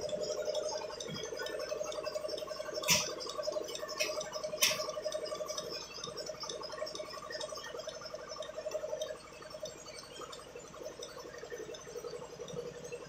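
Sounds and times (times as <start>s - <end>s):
milking machine pulsing gurgle: 0.0s - 13.0s.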